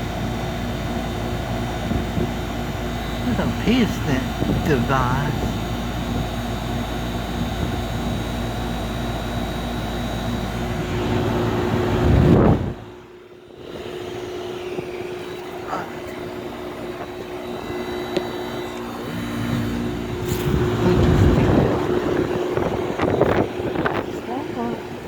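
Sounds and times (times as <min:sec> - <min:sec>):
condenser fan noise: 0:00.0 - 0:25.0
heat pump compressor hum: 0:00.0 - 0:25.0.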